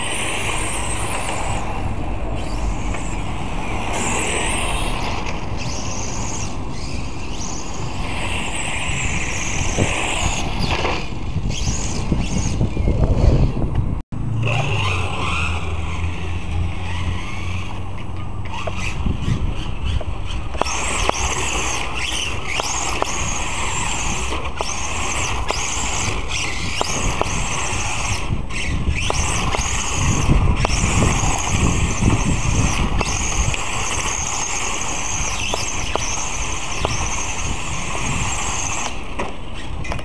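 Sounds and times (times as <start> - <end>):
rc car motor whine: 0.0 - 13.8, 14.4 - 40.0.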